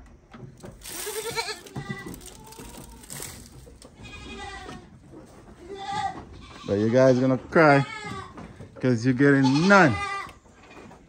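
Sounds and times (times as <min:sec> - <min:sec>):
goats bleating: 0:00.8 - 0:10.6.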